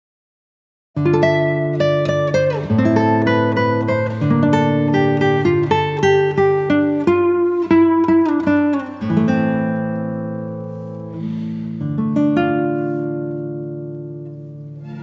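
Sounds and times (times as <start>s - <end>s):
acoustic guitar picking: 1.0s - 15.0s.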